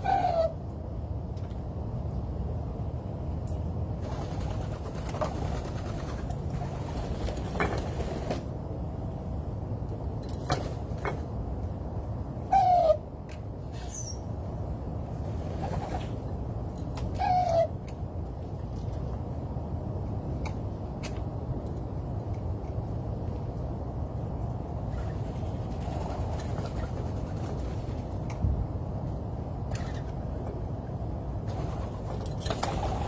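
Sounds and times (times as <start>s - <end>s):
low background rumble: 0.0s - 33.0s.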